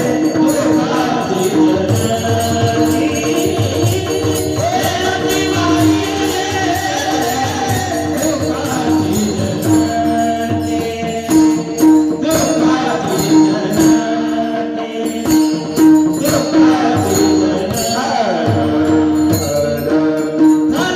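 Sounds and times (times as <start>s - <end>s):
held sustained tones: 0.0s - 20.9s
jingling metal percussion: 0.0s - 20.9s
pakhawaj drum strokes: 0.0s - 20.9s
person singing: 0.0s - 20.9s.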